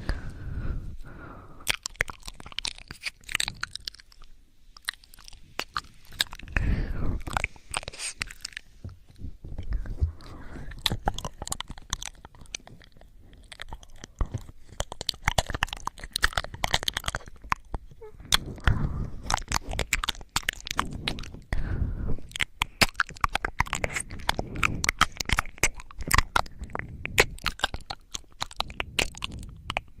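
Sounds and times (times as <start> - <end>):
crackly asmr clicks and scratches: 1.6 - 21.6, 22.2 - 30.0.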